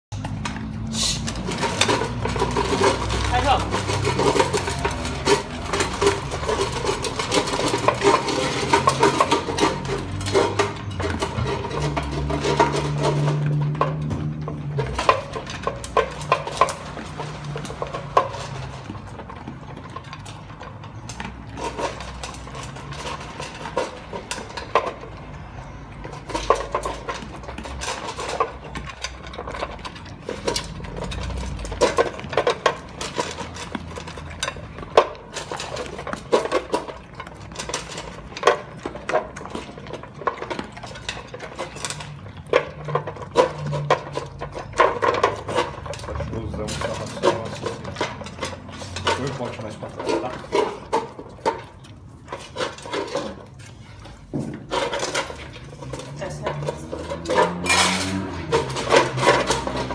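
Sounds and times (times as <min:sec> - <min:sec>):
dogs chewing and crunching kibble: 0:00.1 - 0:59.9
metal bowls clinking and knocking: 0:00.1 - 0:59.9.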